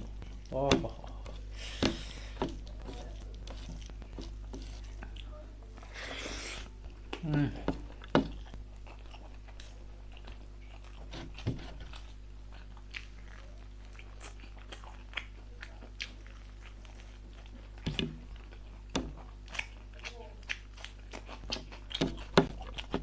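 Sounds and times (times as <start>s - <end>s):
person chewing food: 0.0s - 23.0s
steady low hum: 0.0s - 23.0s.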